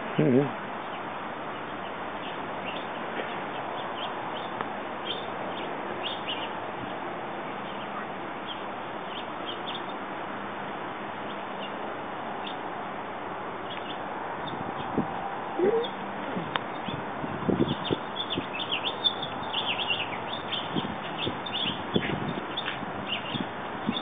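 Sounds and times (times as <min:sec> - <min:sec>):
steady background hiss: 0:00.0 - 0:24.0
small birds chirping: 0:00.1 - 0:10.1, 0:11.1 - 0:12.8, 0:13.6 - 0:24.0.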